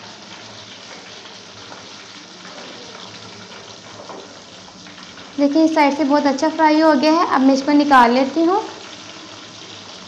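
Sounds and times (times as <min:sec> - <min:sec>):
hot oil sizzling and bubbling: 0:00.0 - 0:10.0.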